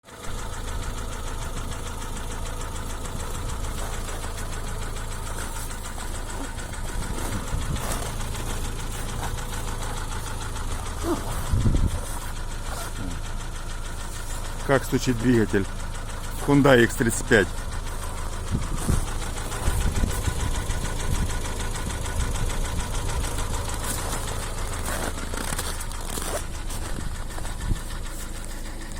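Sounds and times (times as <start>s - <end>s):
car engine running with knock: 0.0s - 28.9s.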